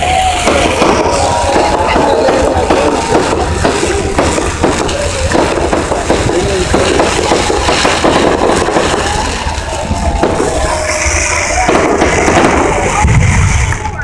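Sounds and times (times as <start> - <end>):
faint voices: 0.0 - 14.0
fireworks crackling and popping: 0.0 - 14.0.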